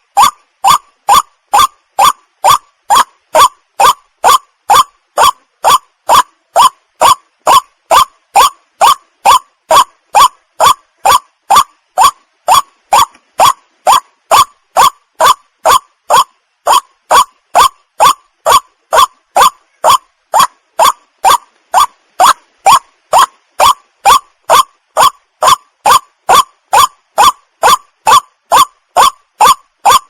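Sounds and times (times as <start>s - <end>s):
waterhen calling: 0.0s - 30.0s.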